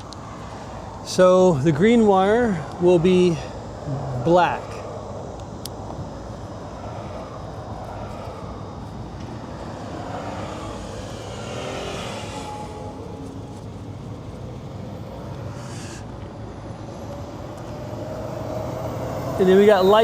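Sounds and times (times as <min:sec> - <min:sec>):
faint gliding tones: 0:00.0 - 0:20.0
low vehicle rumble: 0:00.0 - 0:20.0.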